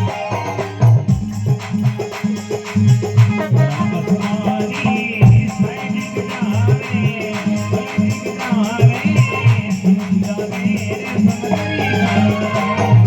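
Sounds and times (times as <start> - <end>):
hand drum beat: 0.0 - 13.0
jingling rattling percussion: 0.0 - 13.0.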